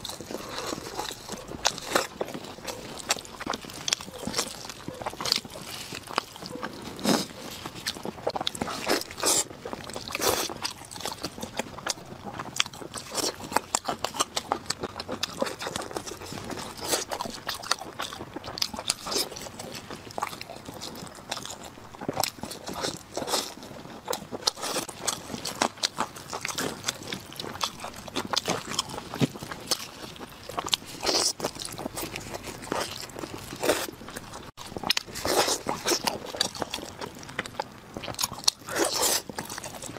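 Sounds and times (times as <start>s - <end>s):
small crunches: 0.0s - 39.9s
wet chewing and biting: 0.0s - 39.9s.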